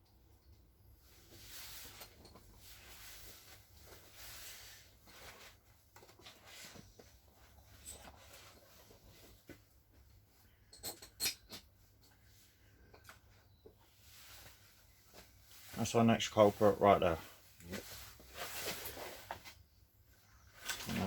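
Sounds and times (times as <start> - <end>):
faint rubbing and scraping: 1.0 - 9.5, 12.2 - 21.0.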